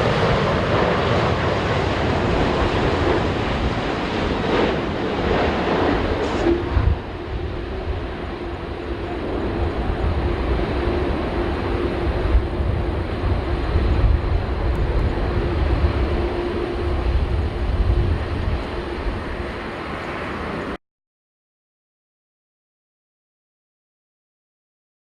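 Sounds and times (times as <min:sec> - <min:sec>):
jet engines rumbling: 0:00.0 - 0:20.8
wind buffeting microphone: 0:00.0 - 0:20.8.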